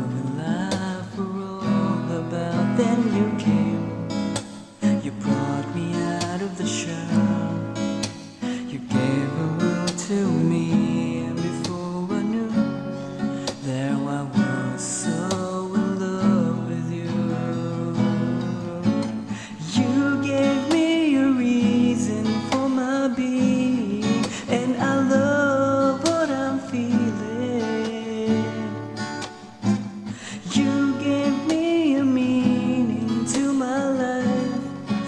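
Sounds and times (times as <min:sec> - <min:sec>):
acoustic guitar strumming: 0:00.0 - 0:35.0
man singing a slow ballad: 0:00.0 - 0:35.0.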